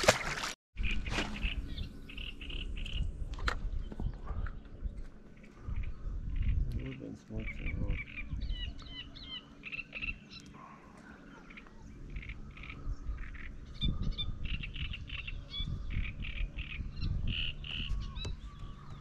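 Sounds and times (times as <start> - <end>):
low rumble: 0.9 - 19.0
small birds chirping: 1.4 - 19.0.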